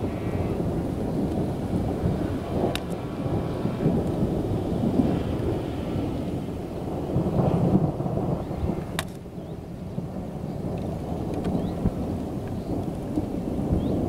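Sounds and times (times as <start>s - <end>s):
rolling thunder: 0.0s - 14.0s.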